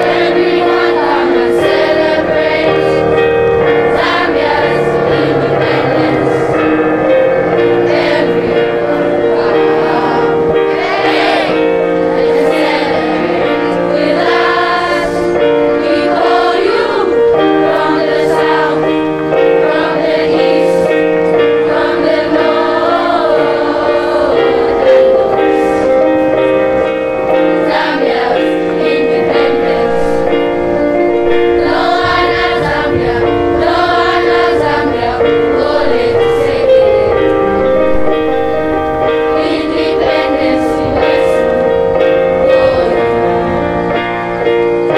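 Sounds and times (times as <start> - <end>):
children's choir singing: 0.0 - 44.9
musical accompaniment: 0.0 - 44.9.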